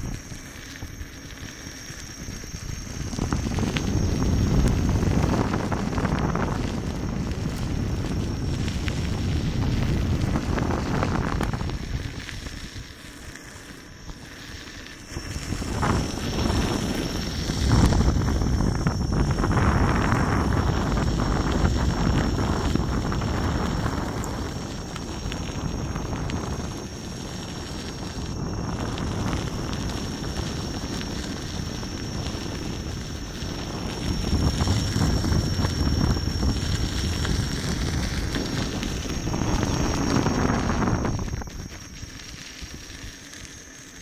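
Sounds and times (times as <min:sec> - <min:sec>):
thin high whine: 0:00.0 - 0:44.0
wind rushing over microphone: 0:00.0 - 0:44.0.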